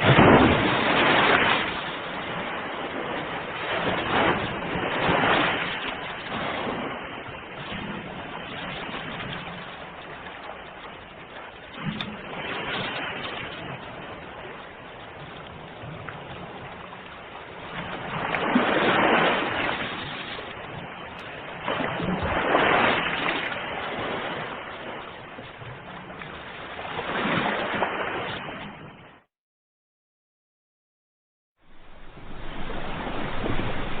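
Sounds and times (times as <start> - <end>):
ocean waves washing ashore: 0.0 - 29.3, 31.6 - 34.0.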